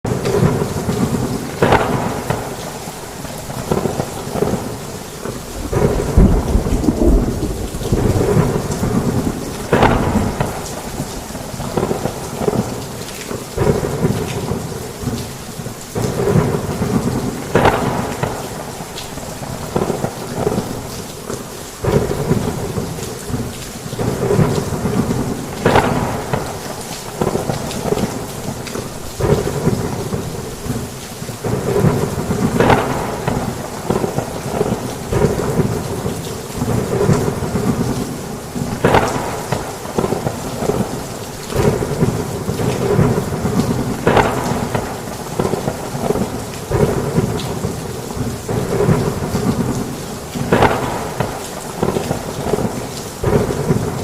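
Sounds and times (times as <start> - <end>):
heavy rain on a roof: 0.0 - 54.0
sharp thunder crack: 0.1 - 12.8, 16.0 - 18.8, 21.8 - 28.3, 29.2 - 37.9, 38.6 - 54.0
thunder rumbling: 0.1 - 54.0.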